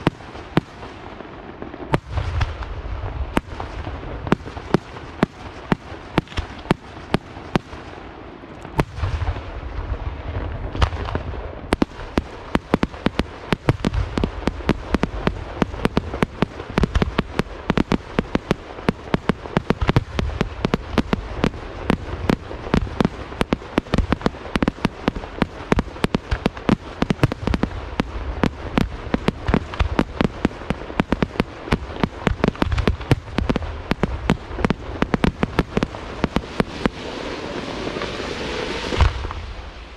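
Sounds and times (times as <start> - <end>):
deep fireworks booms: 0.0 - 39.9
fireworks sharp bangs: 0.0 - 39.9.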